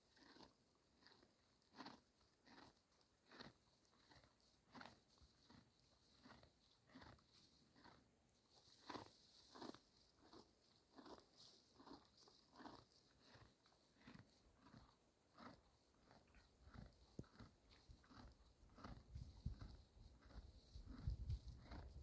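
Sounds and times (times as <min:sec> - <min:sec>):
ponies chewing hay: 0:00.0 - 0:22.0.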